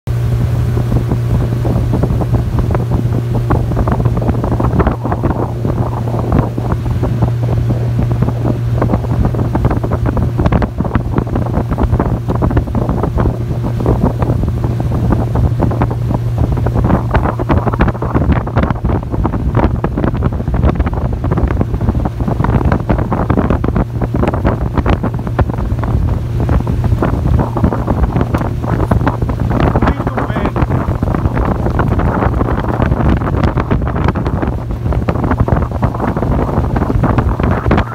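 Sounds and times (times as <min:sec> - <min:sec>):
outboard motor running: 0:00.1 - 0:37.9
water rushing against hull: 0:00.1 - 0:37.9
wind buffeting microphone: 0:00.1 - 0:37.9.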